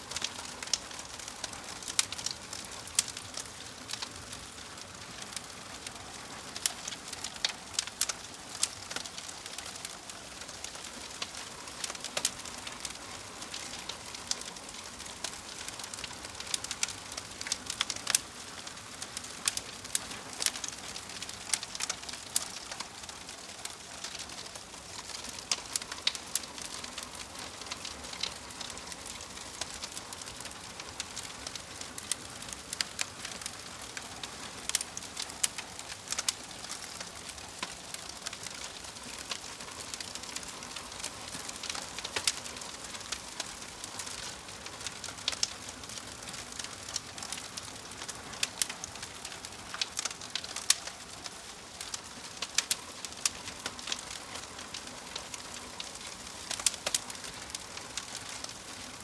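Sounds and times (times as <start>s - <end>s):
fireplace logs crackling and popping: 0.0s - 59.0s.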